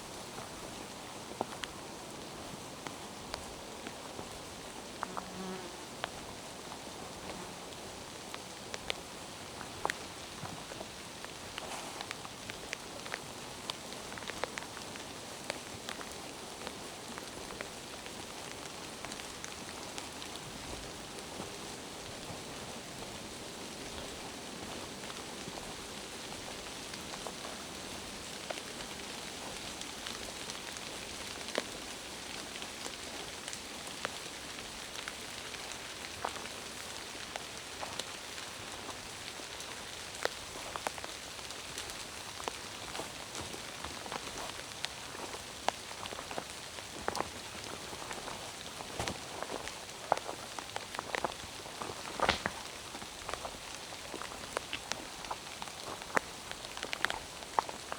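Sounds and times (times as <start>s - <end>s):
raindrops ticking close by: 0.0s - 57.9s
steady rain hiss: 0.0s - 57.9s.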